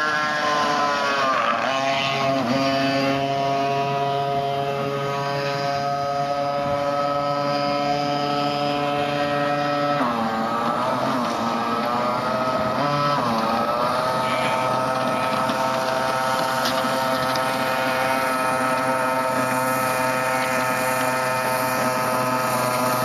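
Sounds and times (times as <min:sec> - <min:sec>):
car engine revving high: 0:00.0 - 0:23.0.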